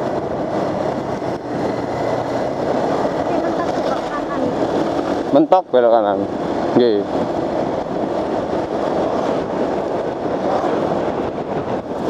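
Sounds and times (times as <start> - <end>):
motorcycle wind rush: 0.0 - 12.0.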